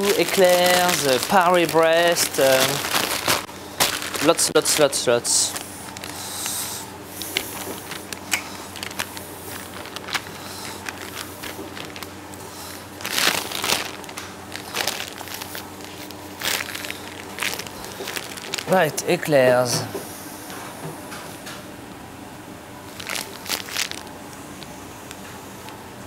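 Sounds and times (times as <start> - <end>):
plastic bag crinkling and rustling: 0.0 - 6.6, 7.2 - 19.7, 22.9 - 25.4.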